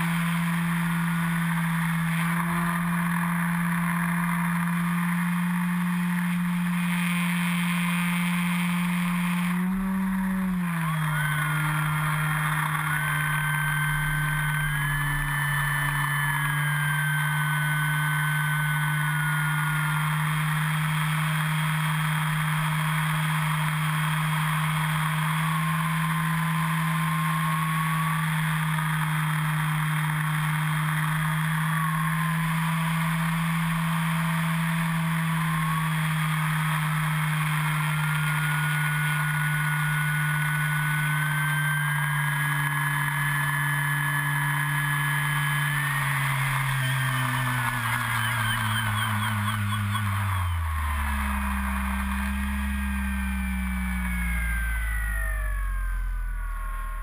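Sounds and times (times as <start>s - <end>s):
electric motor whine: 0.0s - 57.0s
propeller drone: 0.0s - 57.0s.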